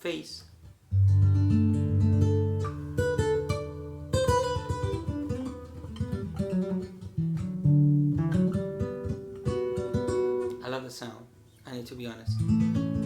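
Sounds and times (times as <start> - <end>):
acoustic guitar notes and chords: 0.2 - 13.0.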